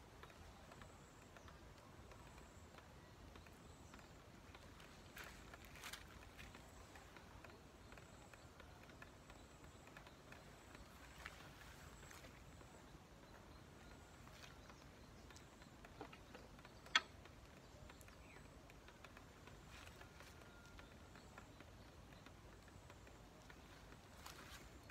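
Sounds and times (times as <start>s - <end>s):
faint ticks: 0.0s - 24.9s.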